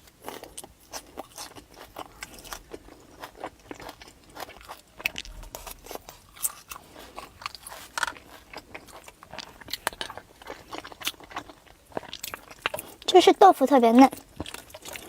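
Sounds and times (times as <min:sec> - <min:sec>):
person chewing food: 0:00.0 - 0:13.1, 0:14.1 - 0:15.0.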